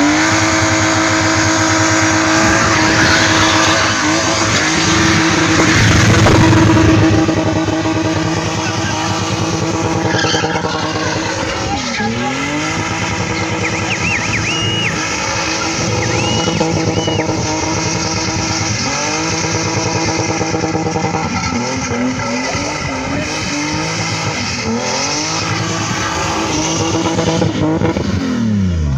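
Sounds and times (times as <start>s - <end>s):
car engine at high revs: 0.0s - 28.9s
tyres squealing on tarmac: 0.9s - 27.3s.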